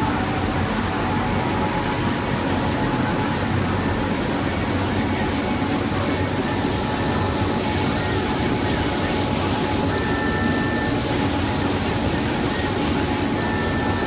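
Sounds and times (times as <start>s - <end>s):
faint high whine: 0.0s - 14.0s
laser cutting machine humming: 0.0s - 14.0s.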